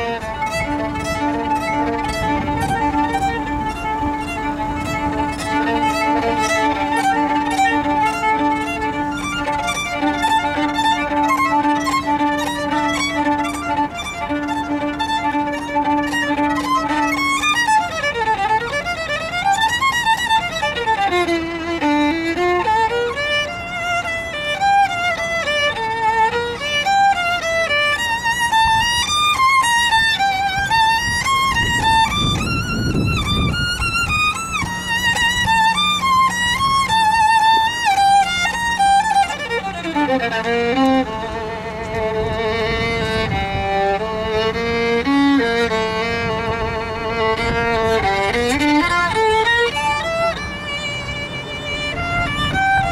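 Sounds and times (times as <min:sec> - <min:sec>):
solo violin playing: 0:00.0 - 0:52.9.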